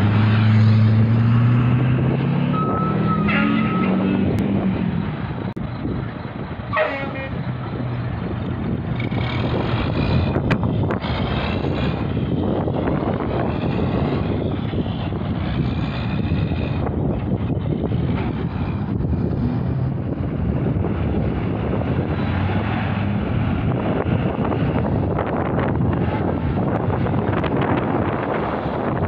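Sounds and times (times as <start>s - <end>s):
traffic rumble of engines and tyres: 0.0s - 29.0s.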